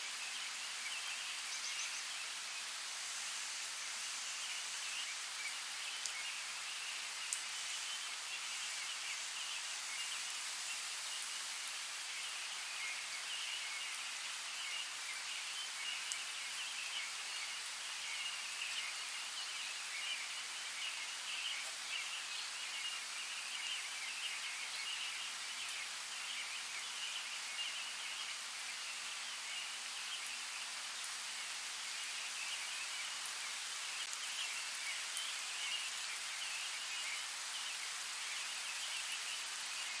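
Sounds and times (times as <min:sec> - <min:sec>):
rain hissing in a forest: 0:00.0 - 0:40.0.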